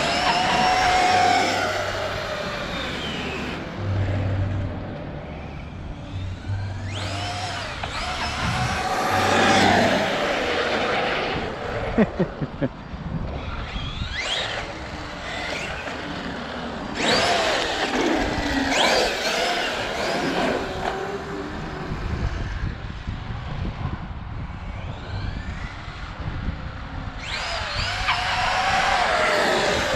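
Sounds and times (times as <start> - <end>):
electric motor whining: 0.0 - 11.8, 13.1 - 22.7, 24.8 - 29.9
tyre and drivetrain noise: 0.0 - 12.0, 12.9 - 23.9, 24.5 - 29.9.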